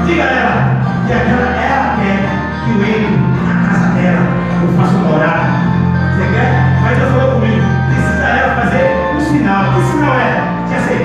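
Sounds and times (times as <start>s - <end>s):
amplified gospel music: 0.0s - 11.0s.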